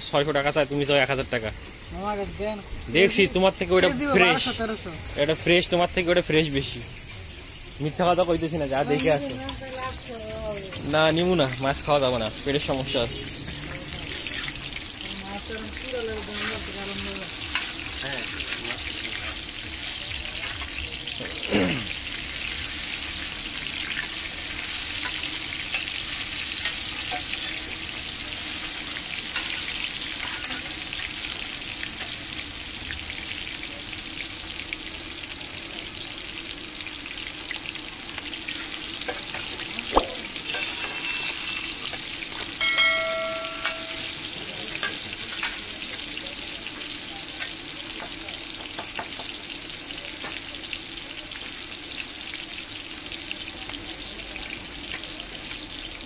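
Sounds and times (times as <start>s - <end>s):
chicken sizzling on griddle: 0.0s - 56.0s.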